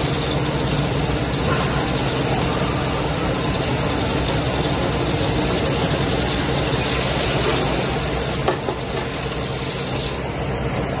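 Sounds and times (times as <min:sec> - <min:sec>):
workshop machinery clatter and hum: 0:00.0 - 0:11.0.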